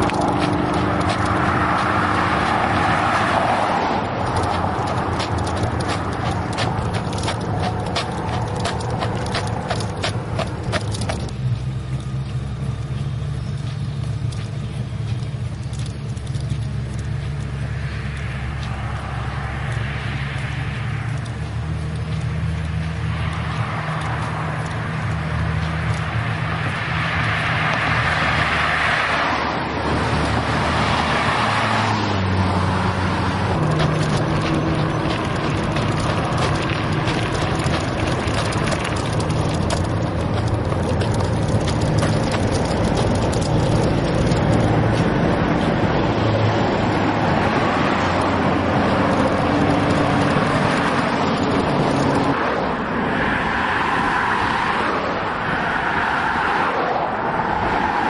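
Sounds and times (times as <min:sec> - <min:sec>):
motor vehicle running: 0:00.0 - 0:58.0
road noise: 0:00.0 - 0:58.0
traffic passing: 0:00.0 - 0:58.0.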